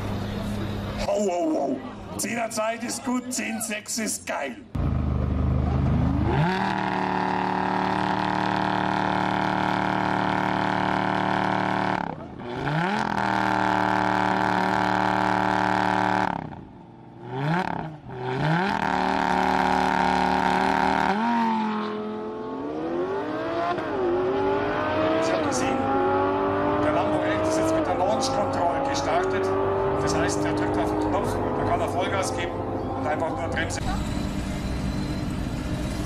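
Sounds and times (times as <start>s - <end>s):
car engine revving: 4.8s - 36.0s.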